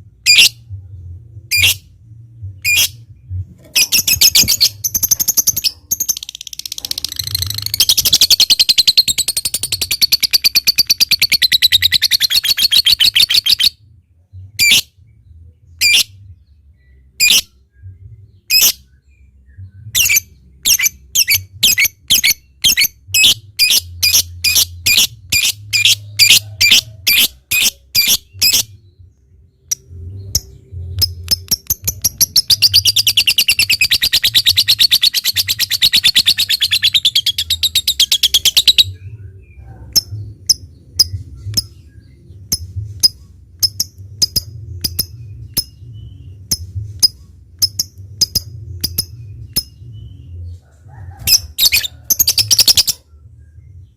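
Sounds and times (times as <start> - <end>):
bird chirping and trilling: 0.2 - 0.6, 1.5 - 1.8, 2.6 - 3.0, 3.6 - 13.8, 14.5 - 14.9, 15.7 - 16.2, 16.8 - 17.6, 18.5 - 29.0, 29.6 - 50.4, 51.2 - 53.0.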